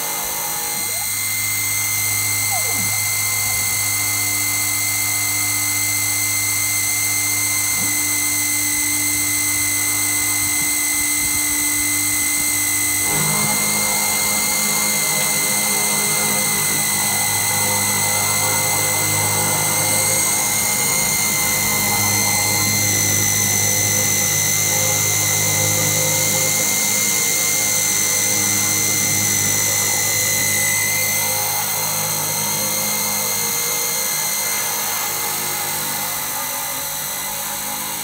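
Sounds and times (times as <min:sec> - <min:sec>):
low motor hum: 0:00.0 - 0:38.0
router spindle high whine: 0:00.0 - 0:38.0.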